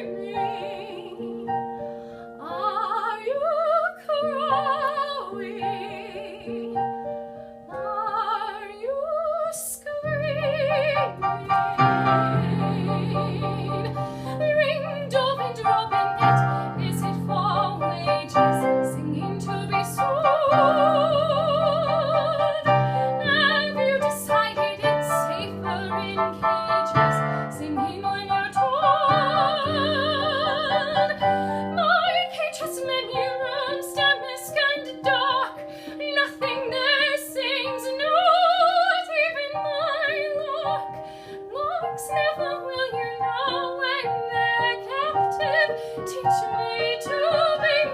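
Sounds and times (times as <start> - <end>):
soprano singing with vibrato: 0.0 - 1.8, 2.4 - 47.9
piano accompaniment: 0.0 - 47.9.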